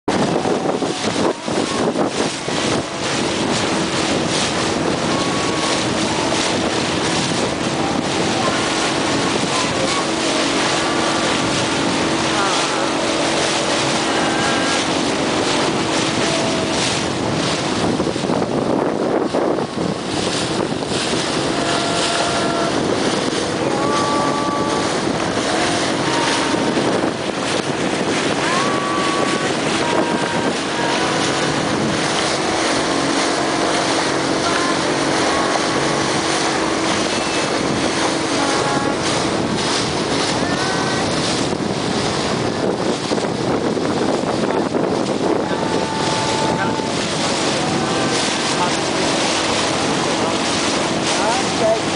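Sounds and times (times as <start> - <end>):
motorboat engine running: 0.0 - 51.9
water rushing along hull: 0.0 - 51.9
wind buffeting microphone: 0.0 - 51.9.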